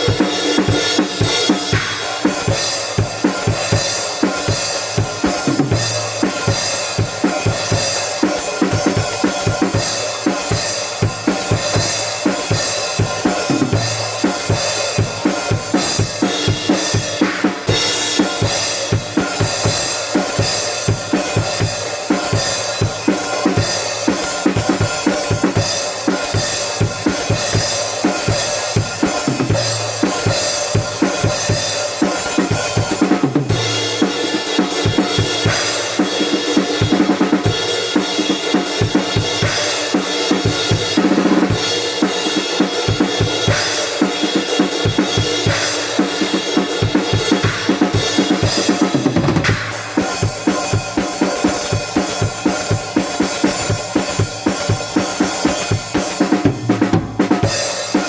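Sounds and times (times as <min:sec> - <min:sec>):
drum kit playing driving beat: 0:00.0 - 0:58.0.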